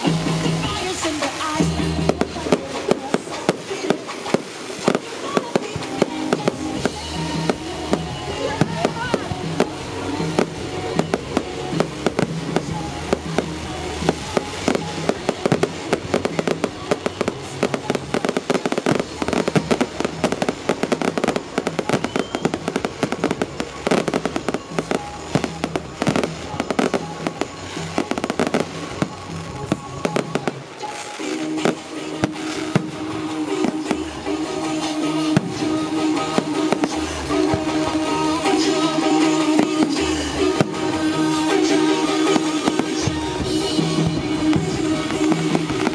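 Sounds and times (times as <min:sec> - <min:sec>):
fireworks bursts and crackling: 0:00.0 - 0:45.9
music playing: 0:00.0 - 0:45.9.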